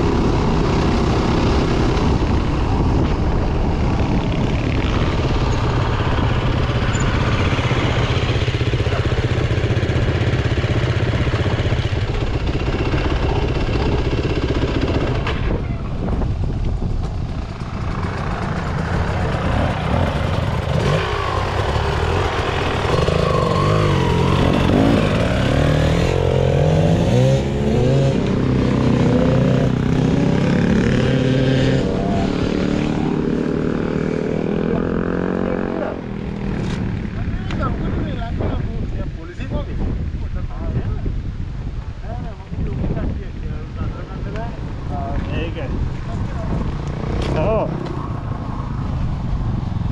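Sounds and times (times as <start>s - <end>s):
dirt bike revving: 0.0s - 16.1s, 16.8s - 37.9s, 45.7s - 49.1s
dirt bike engines idling: 0.0s - 41.0s, 41.7s - 49.9s.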